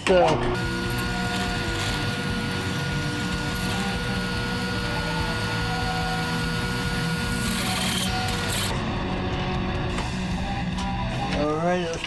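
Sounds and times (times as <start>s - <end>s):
drill press motor whining: 0.0s - 11.4s.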